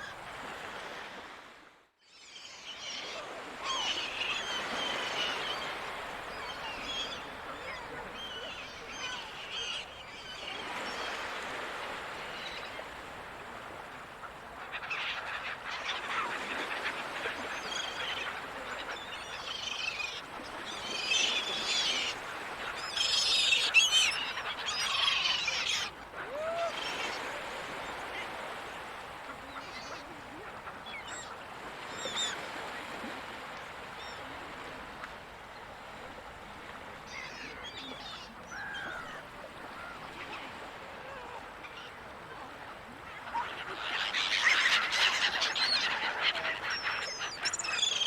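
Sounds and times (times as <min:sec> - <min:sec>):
gulls calling: 0:02.6 - 0:13.0, 0:14.2 - 0:34.6, 0:35.9 - 0:48.0.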